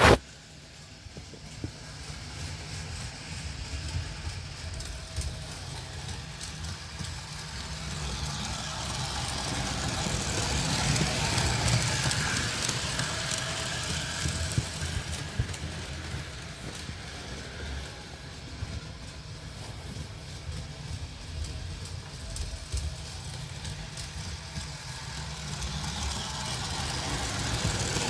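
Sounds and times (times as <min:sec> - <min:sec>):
model train motor hum: 0:00.0 - 0:28.0
model train wheels rattling: 0:00.1 - 0:28.0.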